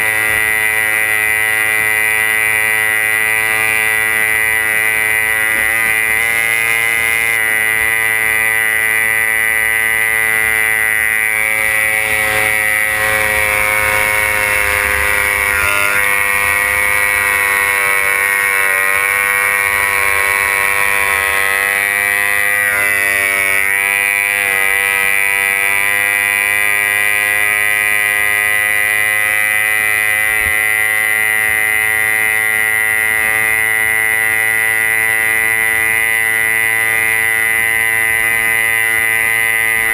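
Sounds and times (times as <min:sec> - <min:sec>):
outboard engine at high revs: 0:00.0 - 0:39.9.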